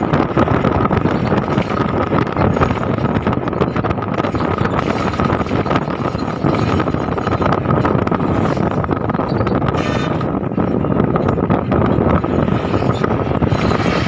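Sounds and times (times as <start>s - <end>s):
vehicle tyres on road: 0.0s - 14.0s
wind buffeting microphone: 0.0s - 14.0s.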